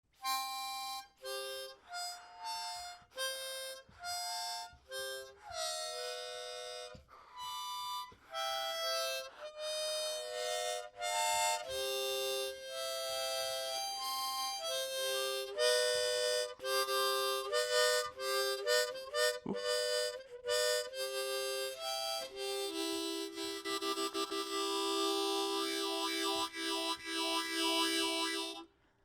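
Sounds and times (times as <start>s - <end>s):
harmonica playing: 0.2s - 28.7s.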